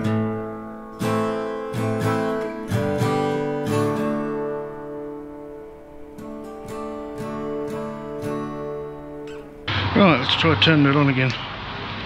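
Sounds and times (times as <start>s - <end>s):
guitar strumming chords: 0.0s - 10.2s.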